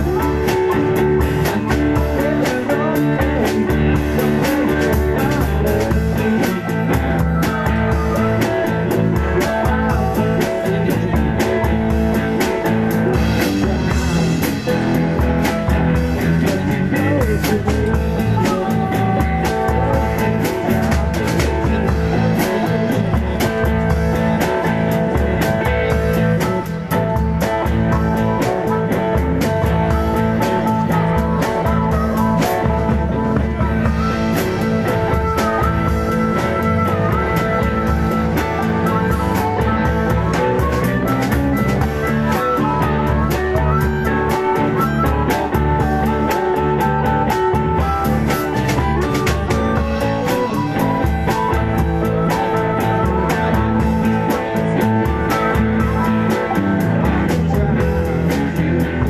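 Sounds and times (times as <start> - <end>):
electric guitar with bent notes: 0.0 - 59.0
steady drum beat: 0.0 - 59.0.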